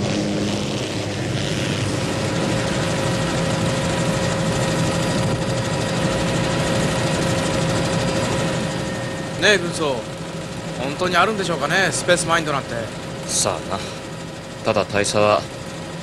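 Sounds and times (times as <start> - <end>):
constant whine: 0.0 - 16.0
helicopter rotor and engine drone: 0.0 - 16.0.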